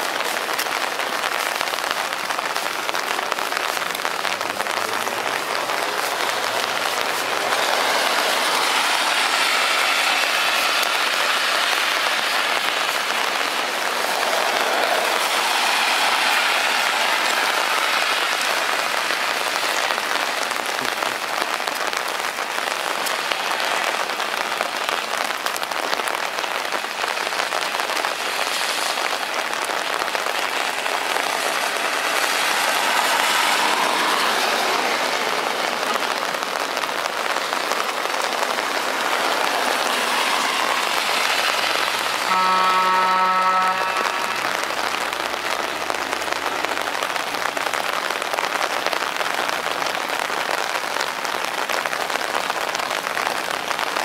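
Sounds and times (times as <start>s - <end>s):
car tyres swishing through water: 0.0s - 54.0s
rain falling on wet ground: 0.0s - 54.0s.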